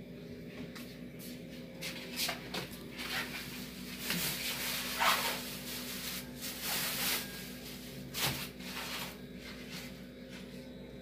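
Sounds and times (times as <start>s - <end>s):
steady low hum: 0.0s - 11.0s
rustling and scraping handling: 1.2s - 10.7s.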